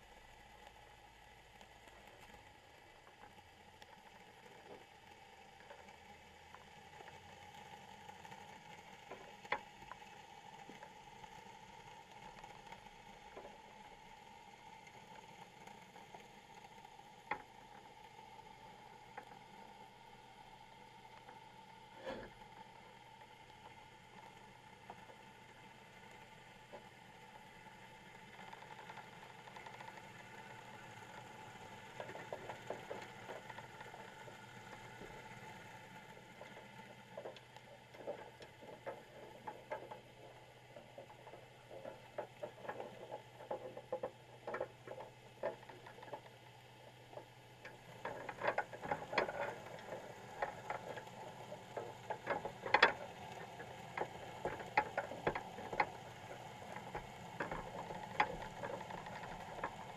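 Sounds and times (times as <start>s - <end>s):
faint steady hum: 0.0s - 59.9s
crabs clicking and scratching on wire: 1.5s - 59.9s.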